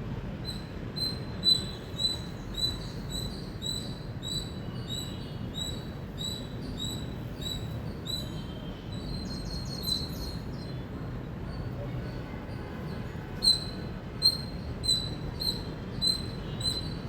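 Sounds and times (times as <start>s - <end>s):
squirrel chirping: 0.4s - 10.7s, 13.4s - 17.0s.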